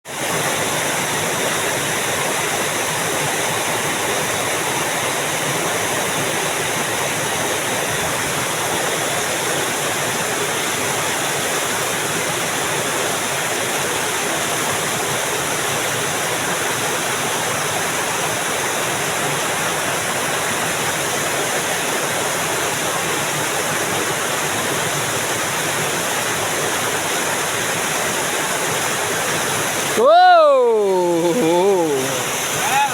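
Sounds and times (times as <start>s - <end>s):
stream water flowing: 0.1s - 32.9s.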